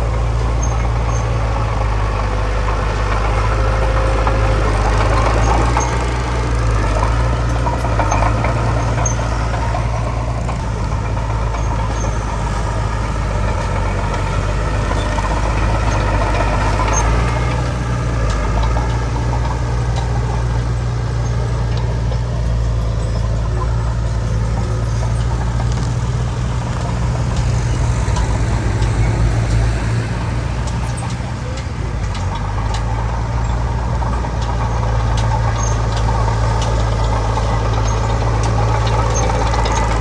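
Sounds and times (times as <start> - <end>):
diesel machinery engine rumble: 0.0 - 40.0.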